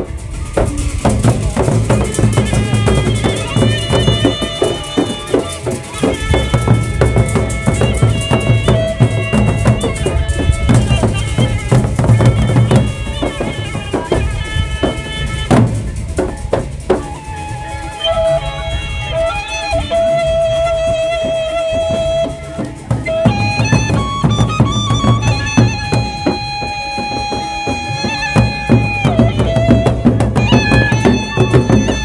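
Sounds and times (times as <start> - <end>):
large barrel drums beaten fast: 0.0 - 32.0
ringing metal percussion: 0.0 - 32.0.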